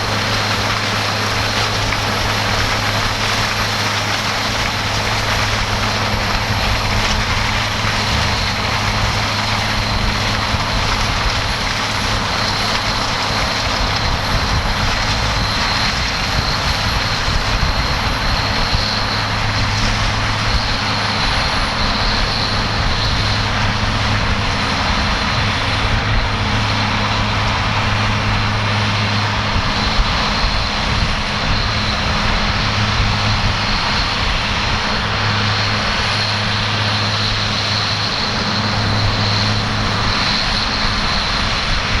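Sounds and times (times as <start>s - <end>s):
combine harvester running: 0.0s - 42.0s.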